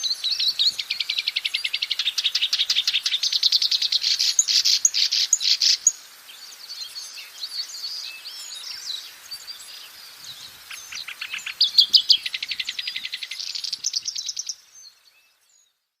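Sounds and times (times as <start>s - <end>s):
warbler singing: 0.0s - 16.0s.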